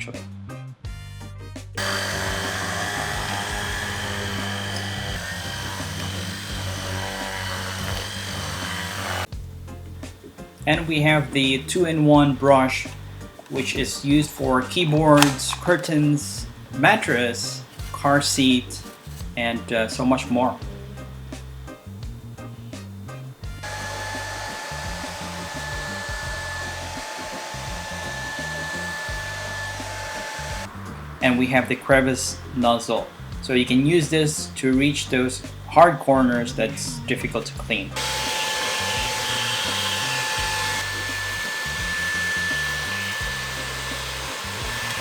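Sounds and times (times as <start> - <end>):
vacuum cleaner running: 1.8 - 9.4, 10.0 - 36.9, 37.8 - 45.0.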